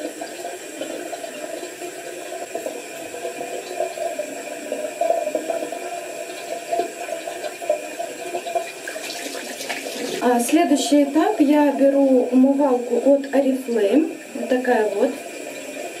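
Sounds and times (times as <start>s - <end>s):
water running: 0.0s - 16.0s.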